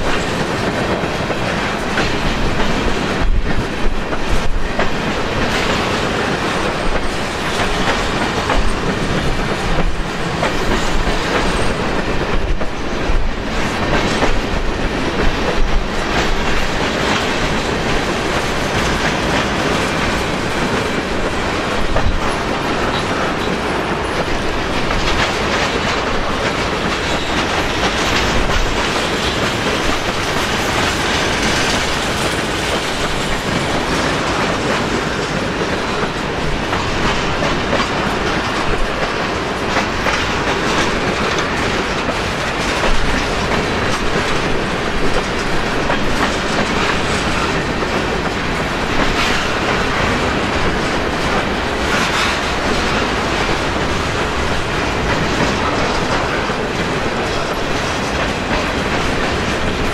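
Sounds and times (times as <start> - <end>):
freight train rolling: 0.0 - 59.9
steel wheels clicking over rail joints: 0.0 - 59.9
wind buffeting microphone: 0.0 - 59.9.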